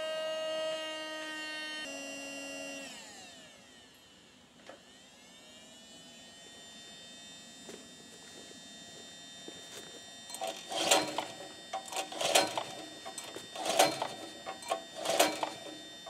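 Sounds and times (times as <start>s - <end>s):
electric blower fan whining: 0.0s - 16.0s.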